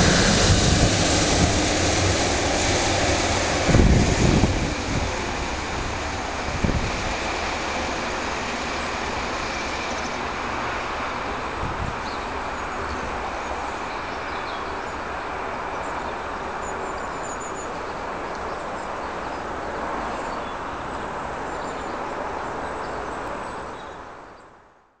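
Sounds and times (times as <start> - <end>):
distant rail and road traffic: 0.0 - 24.6.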